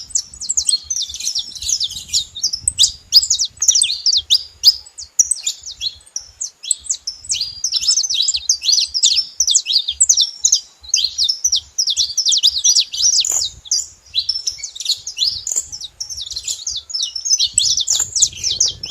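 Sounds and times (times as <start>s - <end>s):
finches chirping: 0.0s - 18.9s.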